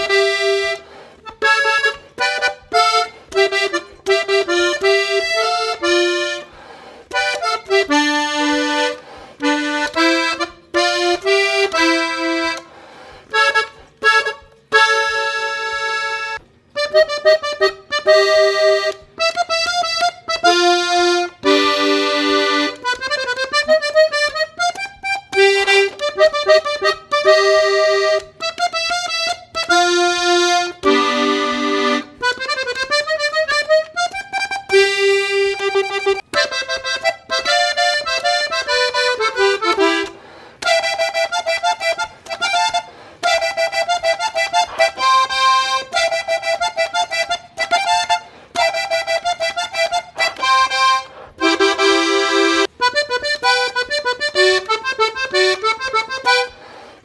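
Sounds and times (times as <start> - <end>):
button accordion melody: 0.0 - 57.0.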